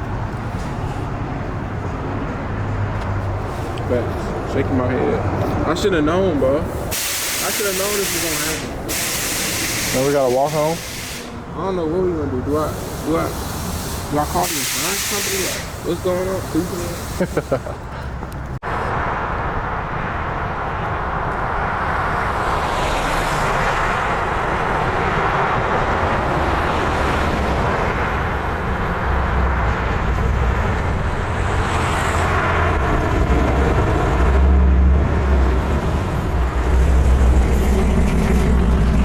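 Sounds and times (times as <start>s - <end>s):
car engine and road roar: 0.0s - 39.0s.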